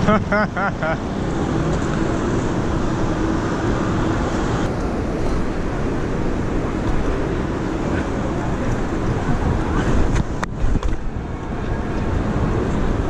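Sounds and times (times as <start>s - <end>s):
city traffic: 0.0s - 13.0s
wind on microphone: 0.0s - 13.0s.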